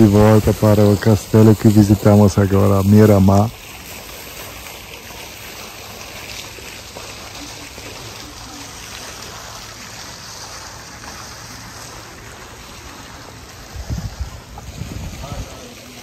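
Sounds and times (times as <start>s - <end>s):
steady outdoor rushing noise: 0.0s - 3.9s, 6.5s - 16.0s.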